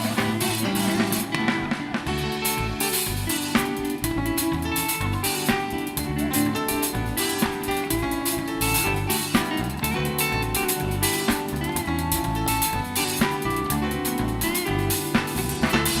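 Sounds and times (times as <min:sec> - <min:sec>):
drum kit steady beat: 0:00.0 - 0:16.0
guitar: 0:00.0 - 0:16.0.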